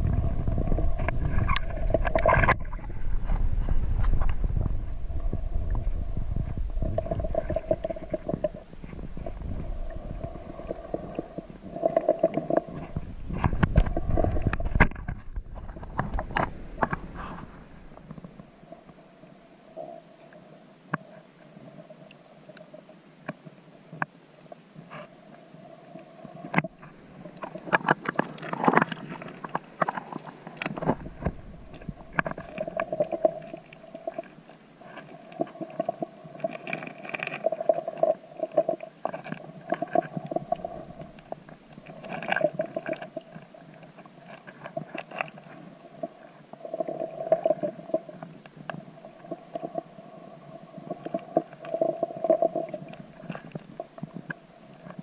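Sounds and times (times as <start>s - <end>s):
hum: 0.0s - 55.0s
underwater gurgling: 0.0s - 55.0s.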